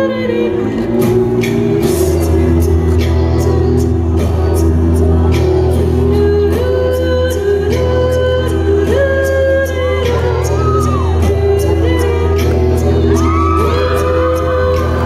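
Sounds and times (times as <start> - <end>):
deep bass: 0.0 - 15.0.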